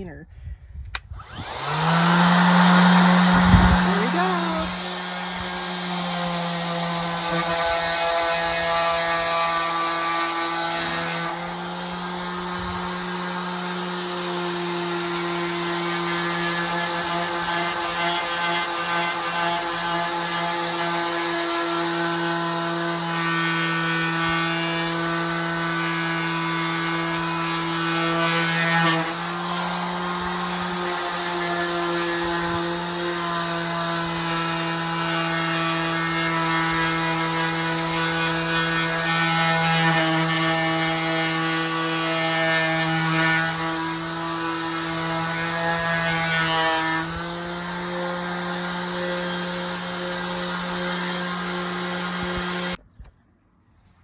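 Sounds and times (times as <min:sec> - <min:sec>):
electric sander humming: 0:01.0 - 0:52.8.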